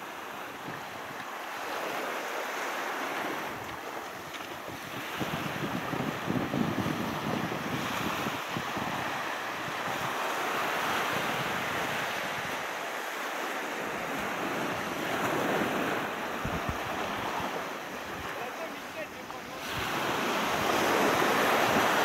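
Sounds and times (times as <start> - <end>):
sea surf washing on beach: 0.0 - 22.0
wind buffeting microphone: 3.2 - 12.8, 13.7 - 22.0.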